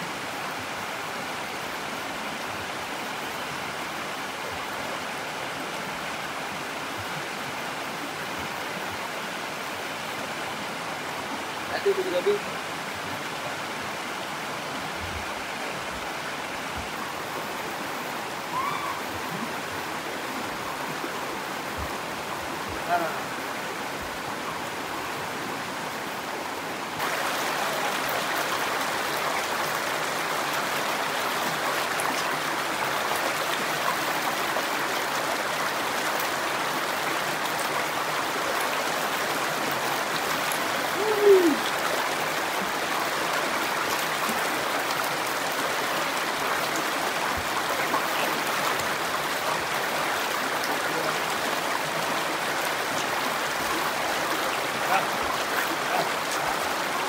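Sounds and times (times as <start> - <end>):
stream rushing over rock: 0.0 - 57.0.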